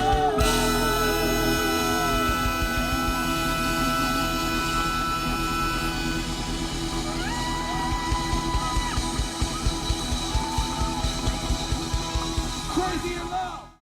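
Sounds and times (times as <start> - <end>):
rock band music: 0.0 - 13.8
steady drum beat: 0.0 - 13.8.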